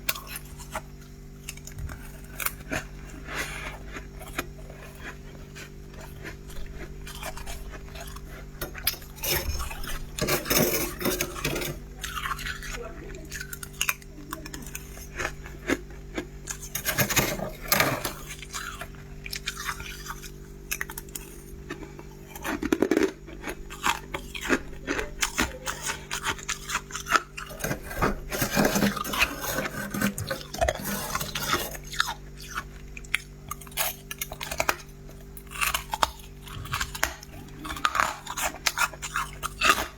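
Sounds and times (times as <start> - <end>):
frost scraping and crunching: 0.0 - 39.9.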